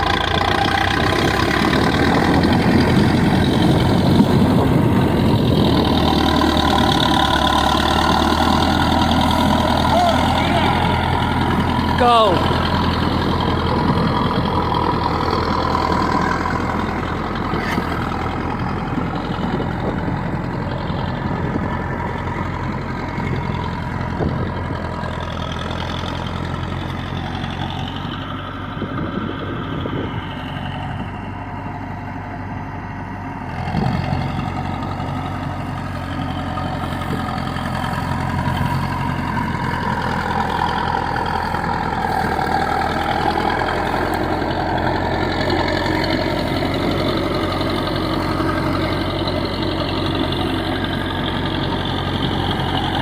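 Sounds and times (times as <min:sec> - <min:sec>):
bulldozer diesel engine: 0:00.0 - 0:53.0.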